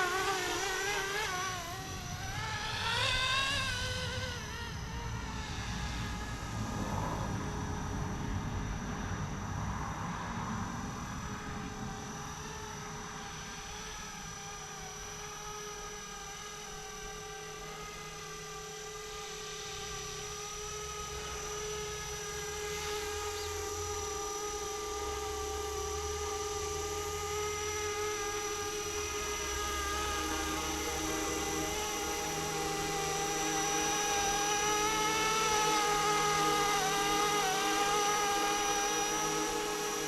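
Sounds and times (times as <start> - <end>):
rc helicopter whine: 0.0 - 40.0.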